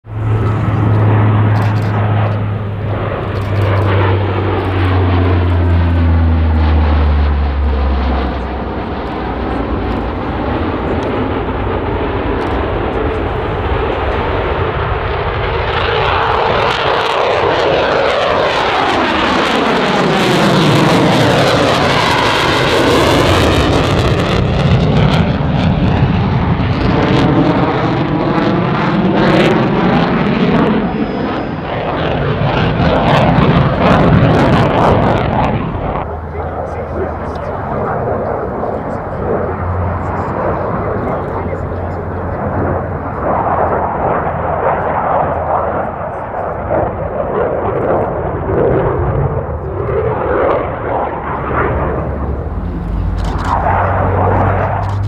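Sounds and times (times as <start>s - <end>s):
fighter jet fly-by: 0.0s - 55.0s
propeller plane passing overhead: 0.0s - 55.0s.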